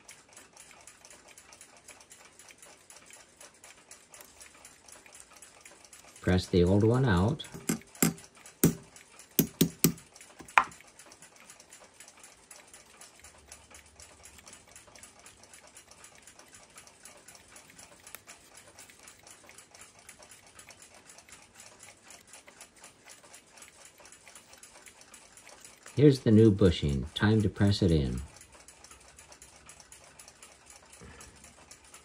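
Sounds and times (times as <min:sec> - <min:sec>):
sharp metallic clicks: 0:00.0 - 0:30.9
faint rapid clock ticking: 0:00.0 - 0:32.0.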